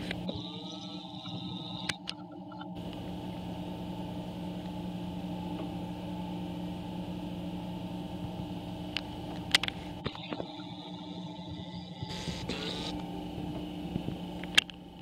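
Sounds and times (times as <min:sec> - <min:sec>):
grinder machine humming: 0:00.0 - 0:15.0.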